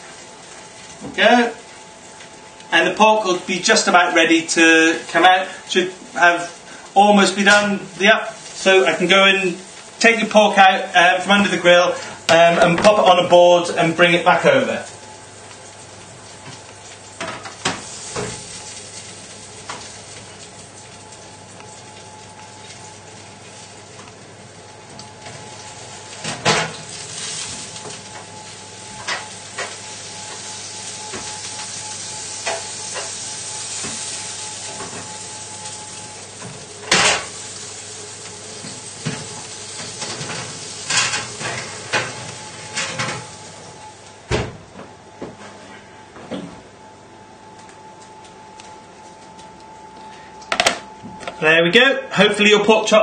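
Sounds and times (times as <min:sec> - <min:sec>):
food sizzling: 0:00.0 - 0:44.2.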